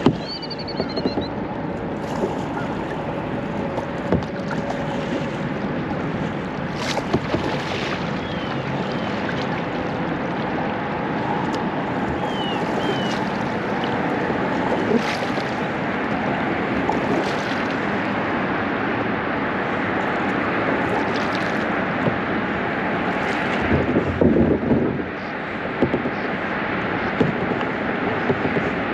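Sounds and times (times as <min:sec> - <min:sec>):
water splashing around kayak: 0:00.0 - 0:28.9.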